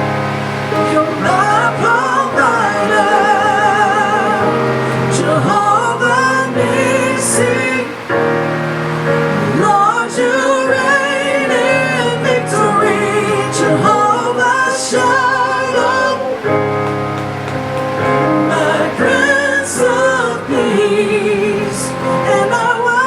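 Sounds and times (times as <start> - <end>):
sustained keyboard chords: 0.0 - 23.0
woman singing: 0.7 - 8.2, 9.4 - 16.6, 18.0 - 23.0.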